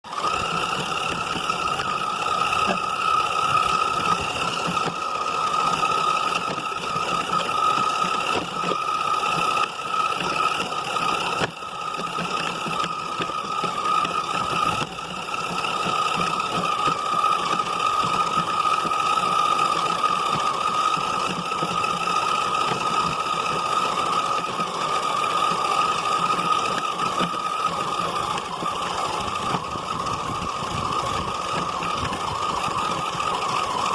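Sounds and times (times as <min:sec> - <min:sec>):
toy car motor whining: 0:00.0 - 0:33.9.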